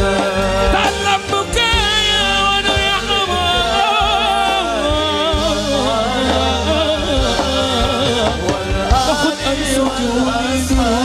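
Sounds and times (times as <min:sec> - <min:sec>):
bass: 0:00.0 - 0:11.0
ornamented melody line: 0:00.0 - 0:11.0.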